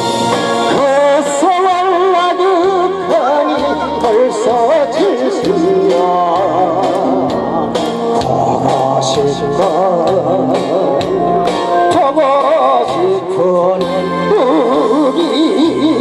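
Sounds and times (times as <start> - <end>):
backing track with drum beat: 0.0 - 16.0
man singing into a microphone: 0.7 - 16.0.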